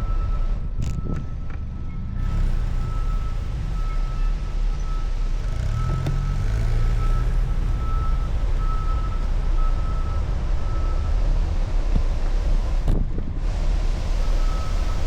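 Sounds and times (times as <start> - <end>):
wind rumble on microphone: 0.0 - 5.0, 7.6 - 15.0
passing vehicle traffic: 0.0 - 15.0.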